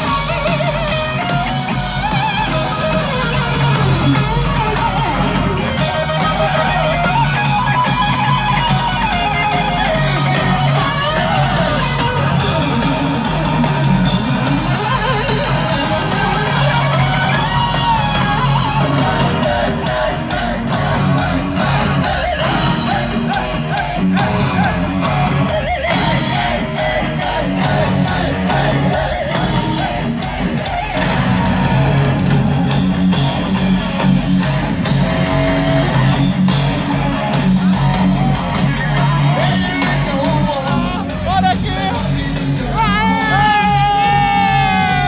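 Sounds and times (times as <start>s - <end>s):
heavy metal band playing live: 0.0s - 45.0s.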